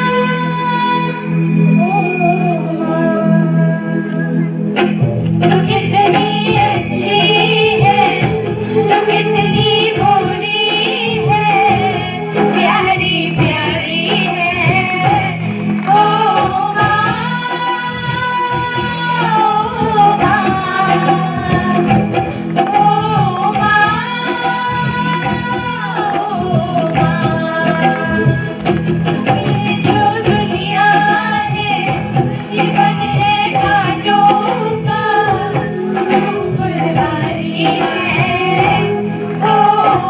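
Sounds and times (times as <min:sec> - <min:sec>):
woman singing wordless melody: 0:00.0 - 0:04.8, 0:05.4 - 0:40.0
instrumental accompaniment: 0:00.0 - 0:40.0.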